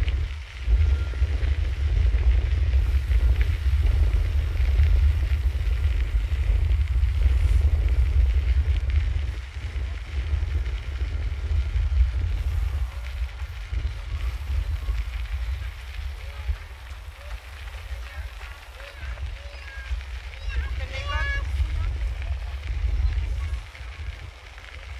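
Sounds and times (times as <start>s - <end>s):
bicycle tyres hissing: 0.0s - 24.9s
wind buffeting microphone: 0.0s - 24.9s.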